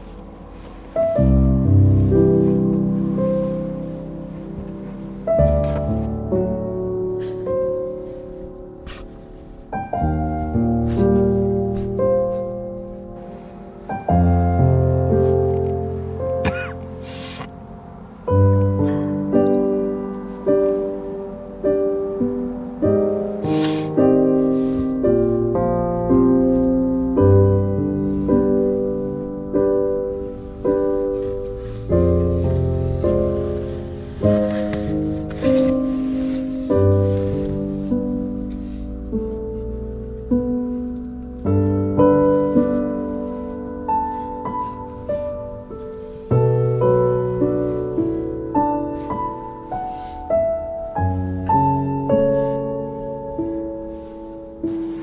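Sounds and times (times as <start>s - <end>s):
piano playing gentle chords: 0.0s - 55.0s.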